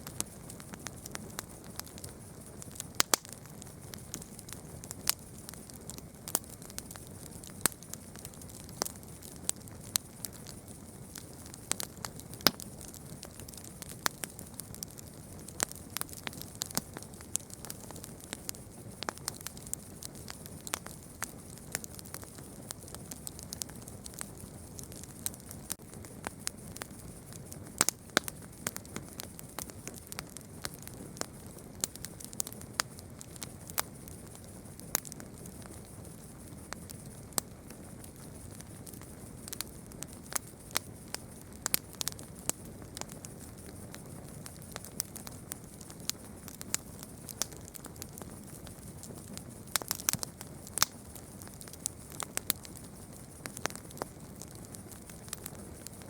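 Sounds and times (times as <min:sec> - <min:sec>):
campfire low rush: 0:00.0 - 0:56.0
wood crackling and popping: 0:00.0 - 0:56.0.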